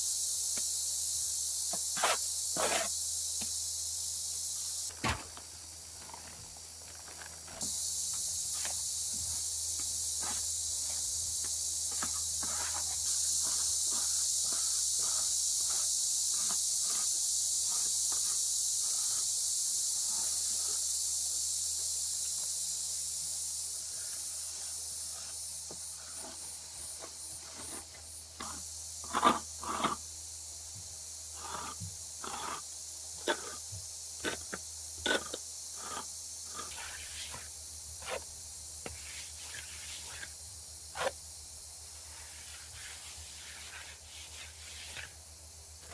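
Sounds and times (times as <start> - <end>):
steady high-pitched hiss: 0.0 - 45.9.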